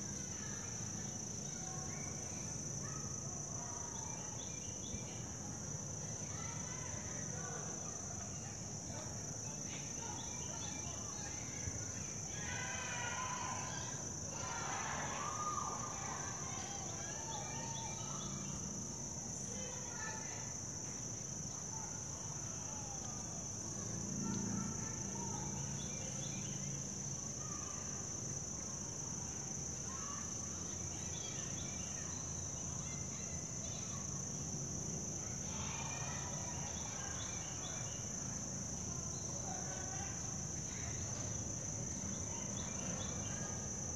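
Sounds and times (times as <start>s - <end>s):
crickets droning: 0.0s - 43.9s.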